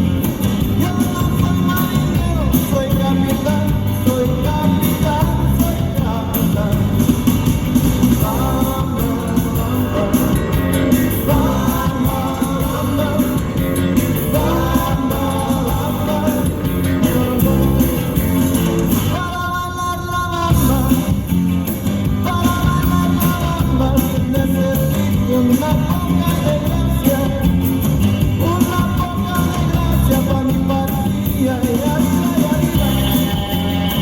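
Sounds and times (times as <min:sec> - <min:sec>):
upbeat music with beat: 0:00.0 - 0:34.0
person singing: 0:00.6 - 0:21.4, 0:22.2 - 0:34.0.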